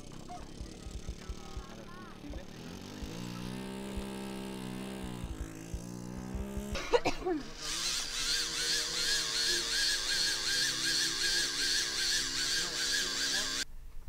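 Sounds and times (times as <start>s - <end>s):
model airplane engine buzzing: 0.0s - 13.7s.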